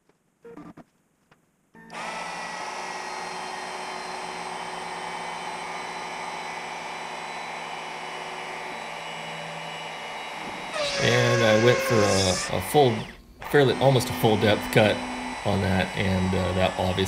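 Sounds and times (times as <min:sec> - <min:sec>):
router spindle running: 0:01.9 - 0:17.0.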